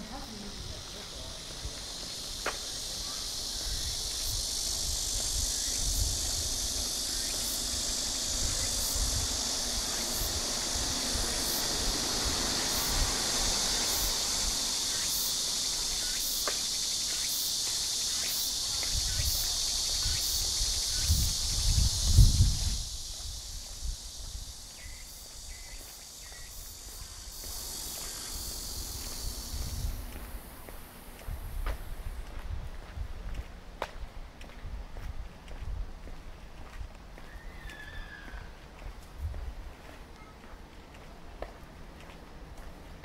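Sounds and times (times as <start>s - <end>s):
cicadas buzzing: 0.0s - 43.0s.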